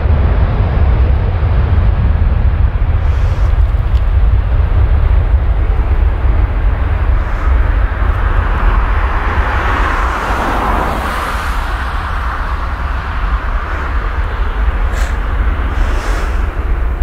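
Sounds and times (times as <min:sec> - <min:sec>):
jet engines rushing: 0:00.0 - 0:17.0
wind rumble on microphone: 0:00.0 - 0:17.0.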